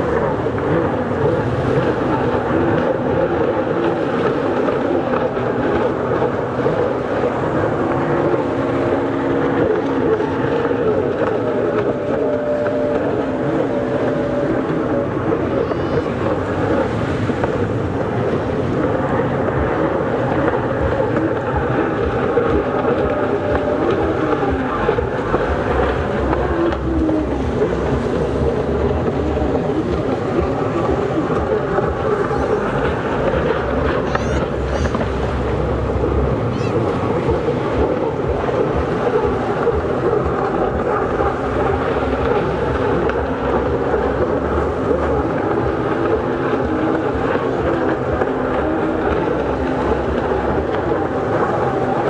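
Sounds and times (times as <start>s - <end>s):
jet ski engines at high revs: 0.0s - 52.0s.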